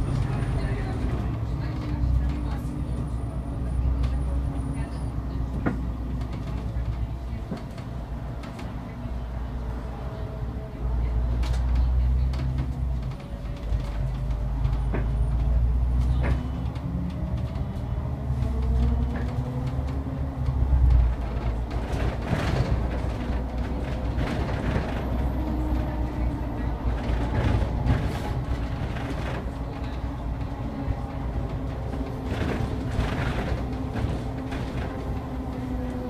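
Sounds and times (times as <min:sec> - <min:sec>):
bus engine rumble: 0:00.0 - 0:36.0.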